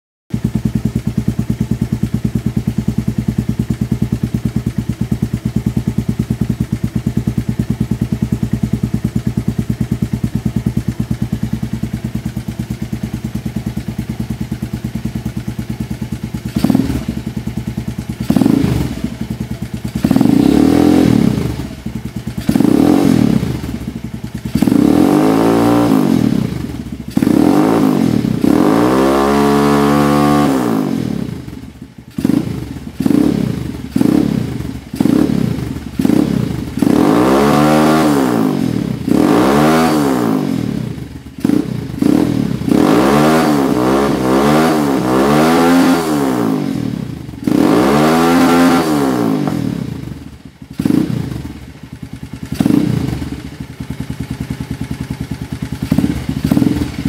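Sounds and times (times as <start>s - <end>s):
motorcycle engine idling and revving: 0.3s - 57.0s.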